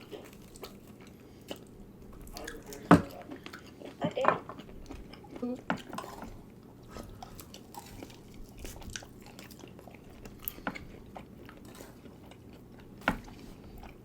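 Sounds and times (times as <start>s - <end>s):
chewing and biting: 0.0s - 14.0s.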